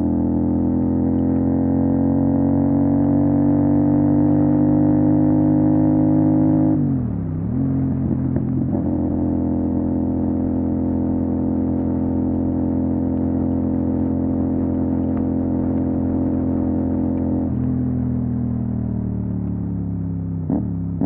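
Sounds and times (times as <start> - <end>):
motorcycle engine at steady revs: 0.0 - 21.0.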